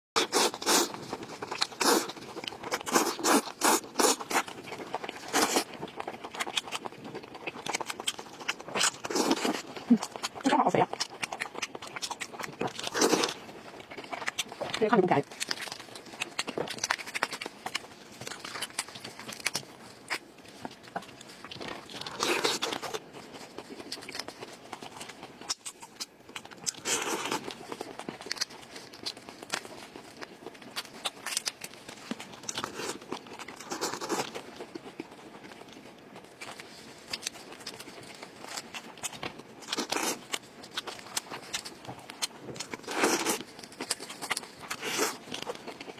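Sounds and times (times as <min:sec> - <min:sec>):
chewing and crunching food: 0:00.2 - 0:45.9.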